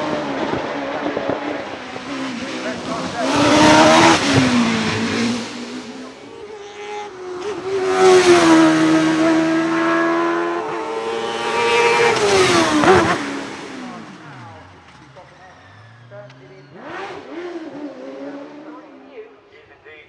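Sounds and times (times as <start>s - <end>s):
race car accelerating: 0.0s - 19.4s.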